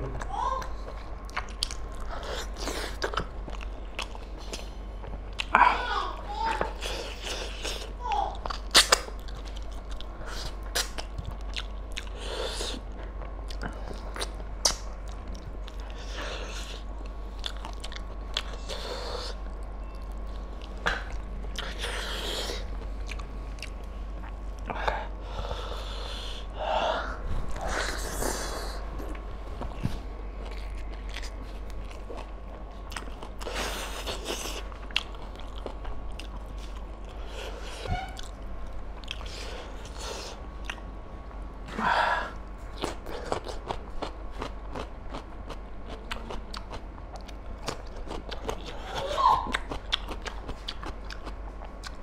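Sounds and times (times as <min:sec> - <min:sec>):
man chewing with wet mouth sounds: 0:00.0 - 0:52.0
steady low hum: 0:00.0 - 0:52.0.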